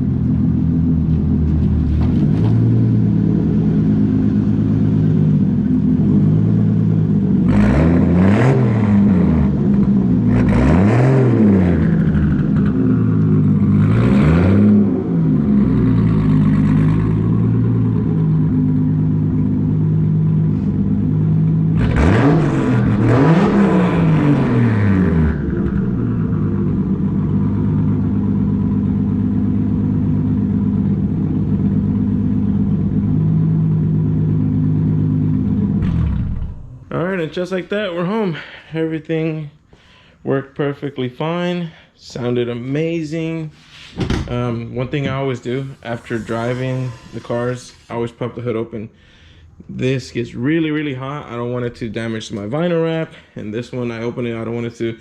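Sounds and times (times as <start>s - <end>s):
vehicles passing: 0.0s - 40.4s, 41.7s - 50.0s
car engine cruising drone: 0.0s - 55.0s.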